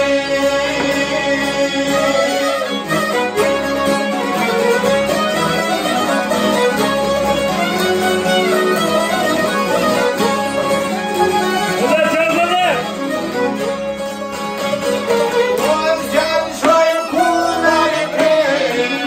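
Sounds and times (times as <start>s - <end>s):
plucked lutes strumming: 0.0s - 19.0s
violin melody: 0.0s - 19.0s.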